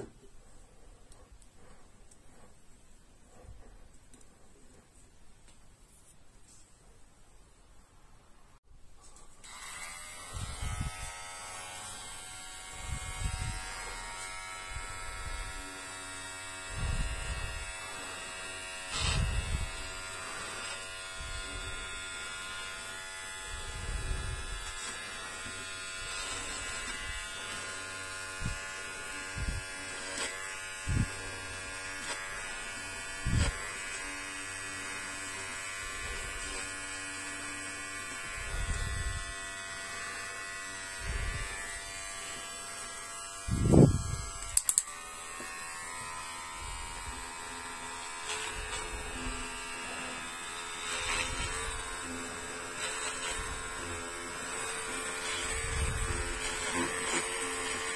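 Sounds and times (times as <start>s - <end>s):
electric hair clipper buzzing: 9.4s - 57.9s
low bumps of clipper on head: 9.4s - 57.9s.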